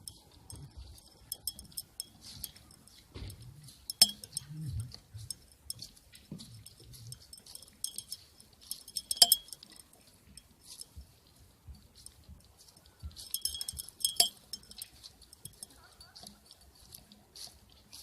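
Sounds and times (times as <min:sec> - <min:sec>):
sharp clicks and clinks: 0:00.0 - 0:11.0, 0:11.7 - 0:17.6
faint low murmur: 0:00.0 - 0:18.0.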